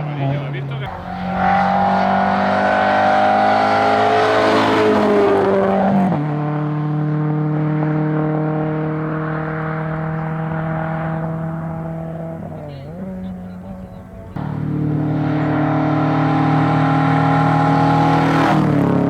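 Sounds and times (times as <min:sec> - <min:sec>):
car engine revving high: 0:00.2 - 0:19.0.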